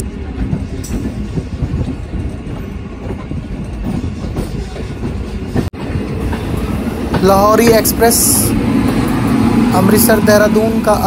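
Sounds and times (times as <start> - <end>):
train wheels rumbling and clicking: 0.0 - 11.0.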